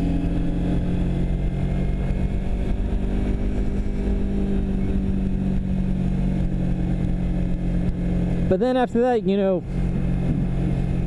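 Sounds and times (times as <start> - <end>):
motorcycle engine running: 0.0 - 11.0
wind rumble on microphone: 0.0 - 11.0.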